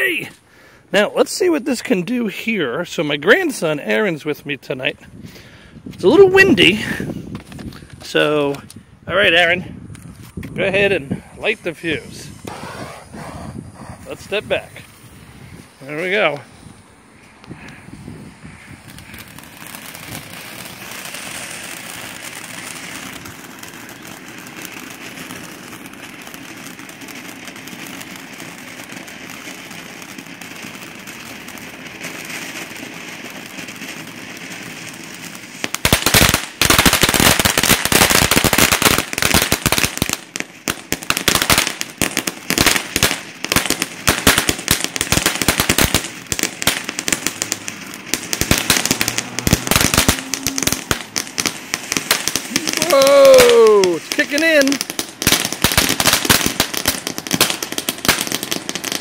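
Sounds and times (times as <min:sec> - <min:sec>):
firework crackling pops: 0:05.9 - 0:59.0
fountain firework spark hiss: 0:10.8 - 0:59.0.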